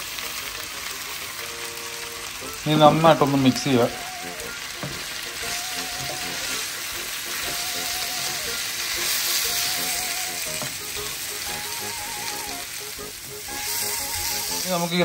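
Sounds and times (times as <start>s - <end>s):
faint melody: 0.0s - 15.0s
frying sizzle: 0.0s - 15.0s.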